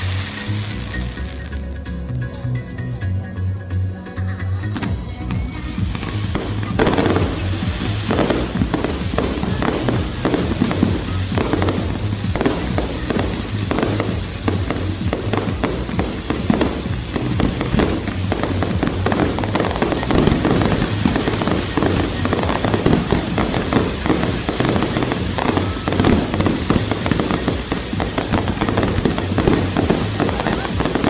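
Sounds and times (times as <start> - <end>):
fireworks bursting and crackling: 0.0 - 3.0, 4.4 - 31.0
show music: 0.0 - 31.0.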